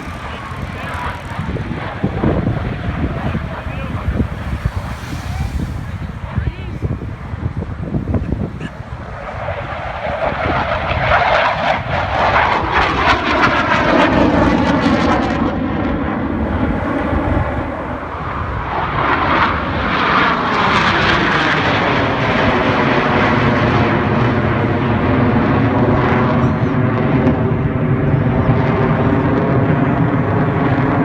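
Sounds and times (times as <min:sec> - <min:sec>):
aircraft roar flying past: 0:00.0 - 0:31.0.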